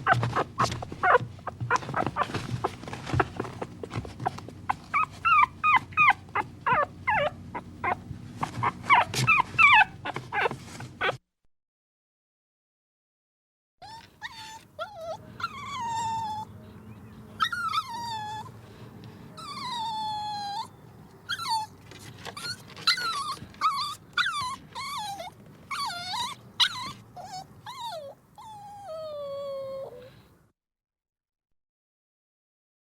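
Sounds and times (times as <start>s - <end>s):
dog whining and whimpering: 0.0s - 11.2s, 13.8s - 18.6s, 19.4s - 30.3s.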